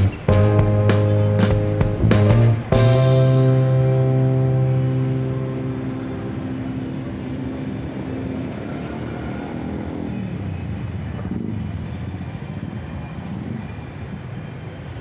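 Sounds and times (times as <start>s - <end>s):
scooters and cars passing: 0.0s - 15.0s.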